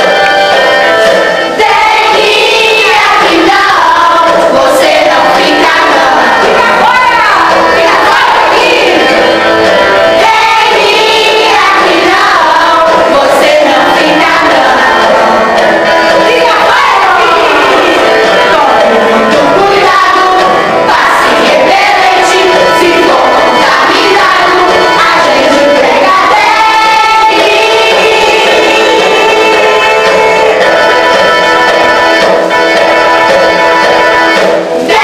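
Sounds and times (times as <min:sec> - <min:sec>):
children singing: 0:00.0 - 0:35.0
instrumental music: 0:00.0 - 0:35.0.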